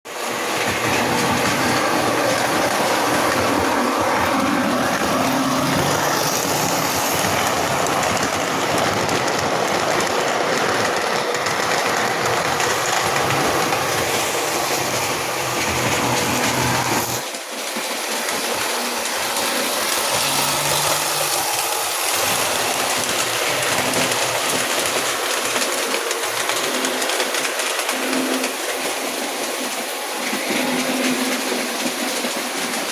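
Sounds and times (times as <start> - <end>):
model train wheels rattling on rail: 0.1 - 32.9.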